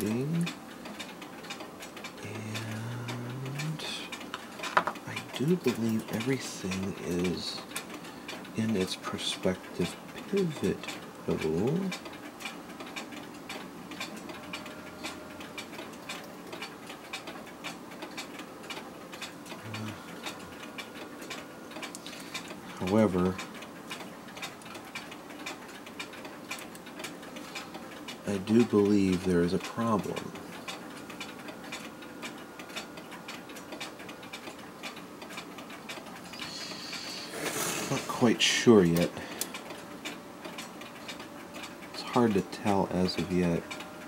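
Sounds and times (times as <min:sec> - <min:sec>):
mechanical clock ticking: 0:00.0 - 0:44.0.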